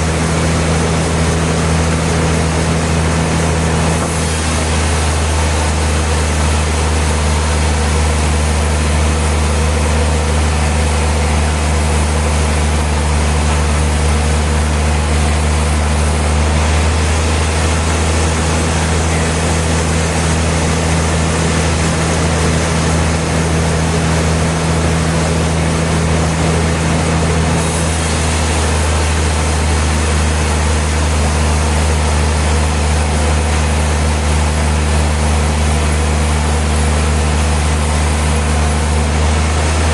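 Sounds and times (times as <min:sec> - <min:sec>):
constant rushing noise: 0:00.0 - 0:39.9
sawmill engine hum: 0:00.0 - 0:39.9.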